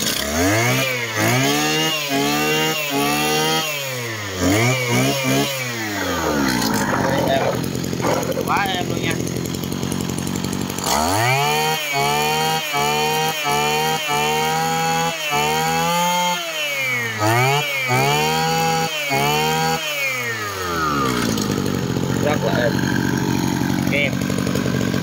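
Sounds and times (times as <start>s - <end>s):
brush cutter engine revving: 0.0s - 25.0s.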